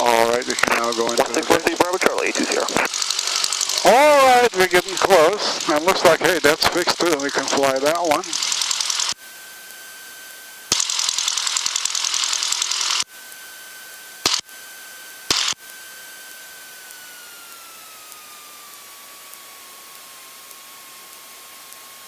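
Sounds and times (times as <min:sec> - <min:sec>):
airplane cabin engine noise: 0:00.0 - 0:22.0
thin steady electronic whine: 0:00.0 - 0:22.0.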